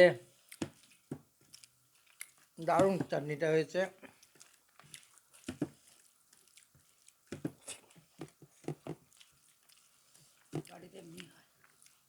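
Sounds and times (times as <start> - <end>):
person chewing food: 0.2 - 3.1, 4.0 - 12.0.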